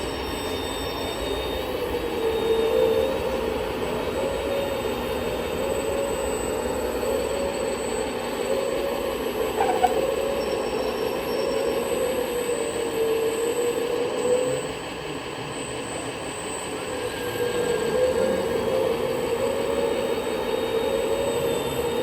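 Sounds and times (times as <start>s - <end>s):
machinery hum: 0.0s - 22.0s
small electric motor whining: 0.0s - 22.0s.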